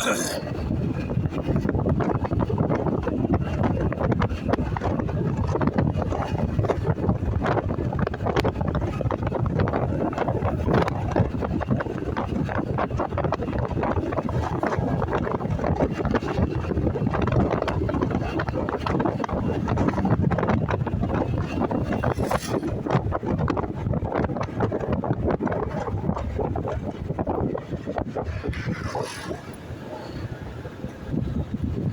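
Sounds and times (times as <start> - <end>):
engine and road rumble: 0.0 - 31.9
wind buffeting microphone: 0.0 - 31.9.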